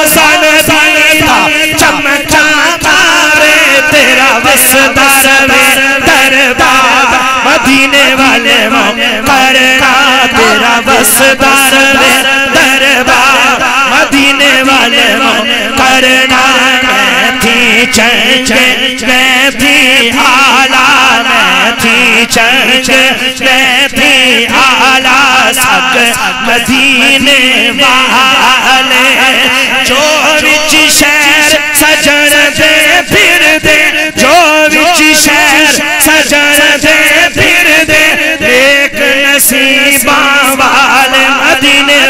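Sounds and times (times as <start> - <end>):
man singing into a microphone: 0.0 - 42.0.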